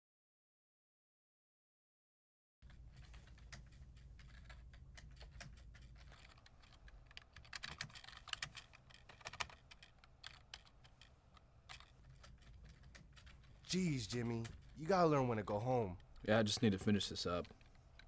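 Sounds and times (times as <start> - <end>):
office room hum: 2.6 - 18.0
typing on computer keyboard: 2.6 - 18.0.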